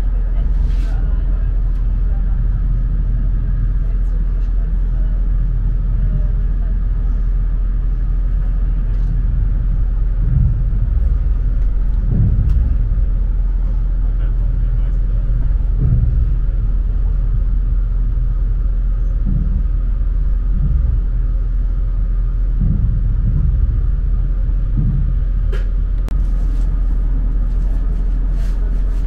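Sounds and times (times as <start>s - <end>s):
train rumbling at speed: 0.0s - 29.0s.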